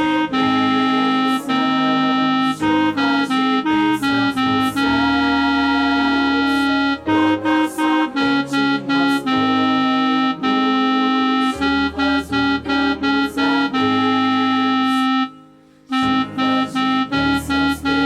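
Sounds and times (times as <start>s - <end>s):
organ-like keyboard playing hymn: 0.0s - 18.0s.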